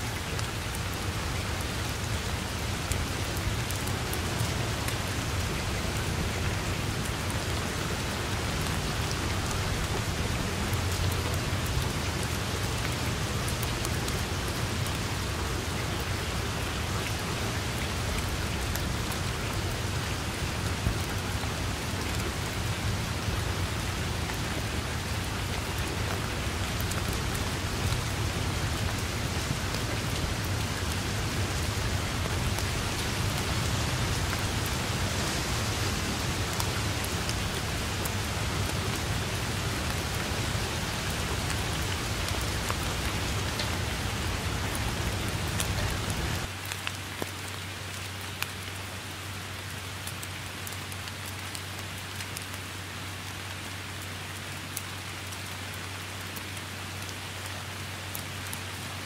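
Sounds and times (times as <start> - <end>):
rain on grass and leaves: 0.0 - 59.0.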